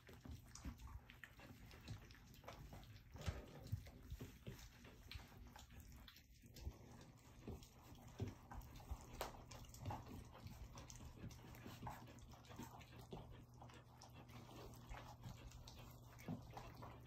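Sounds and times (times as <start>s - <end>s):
puppies lapping food: 0.0s - 17.0s.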